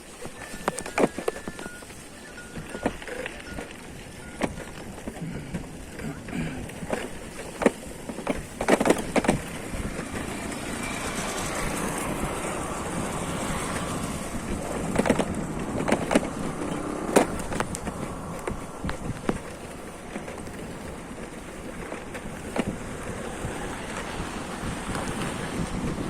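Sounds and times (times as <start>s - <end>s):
vehicle road noise: 0.0s - 26.0s.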